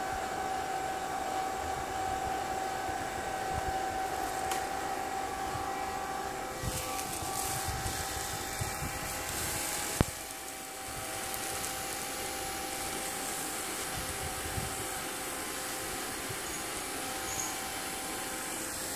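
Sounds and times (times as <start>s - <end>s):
electric blower whining: 0.0s - 18.9s.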